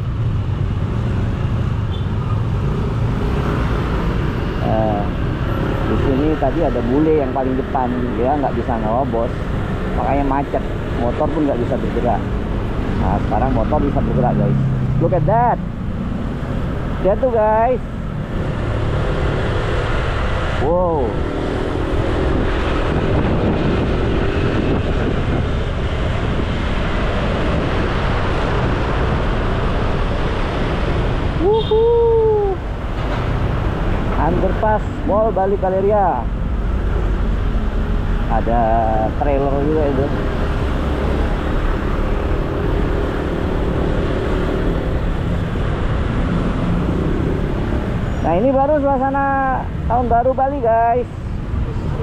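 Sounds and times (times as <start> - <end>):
motorcycle engines rumbling: 0.0 - 52.0
traffic noise: 0.0 - 52.0
wind rushing over microphone: 0.0 - 52.0.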